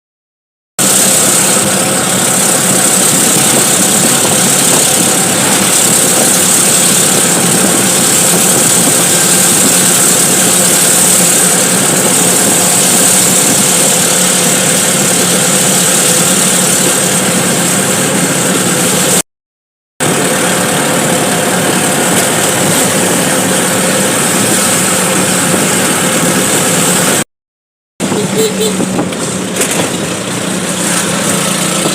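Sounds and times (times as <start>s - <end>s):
auto-rickshaw engine running: 0.8s - 19.2s, 20.0s - 27.2s, 28.0s - 31.9s.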